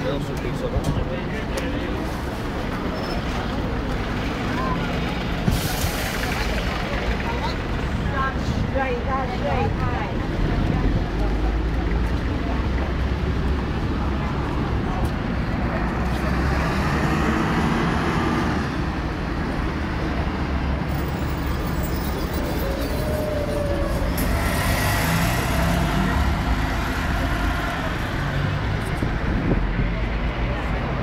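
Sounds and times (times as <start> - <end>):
bus passing with engine running: 0.0 - 31.0
road traffic: 0.0 - 31.0.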